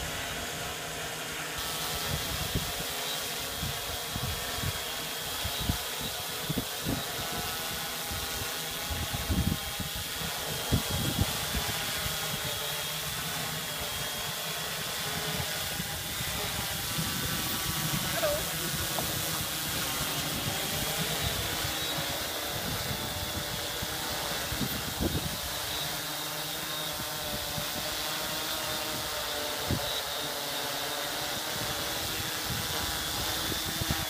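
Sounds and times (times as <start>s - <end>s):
drone propellers whirring: 0.0s - 34.0s.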